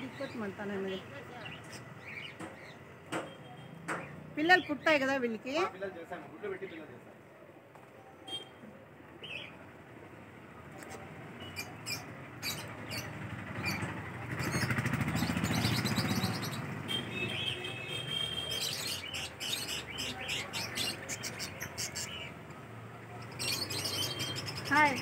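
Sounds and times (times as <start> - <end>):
birds chirping and tweeting: 0.0 - 25.0.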